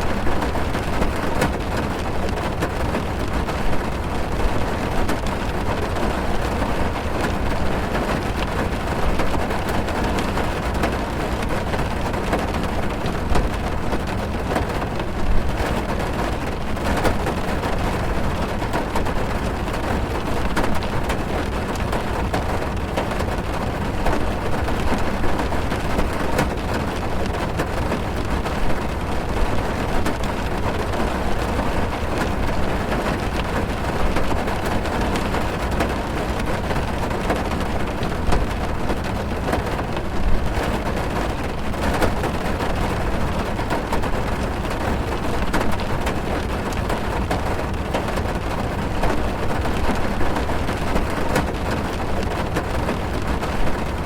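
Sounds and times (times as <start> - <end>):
rain drumming on car roof: 0.0 - 54.0.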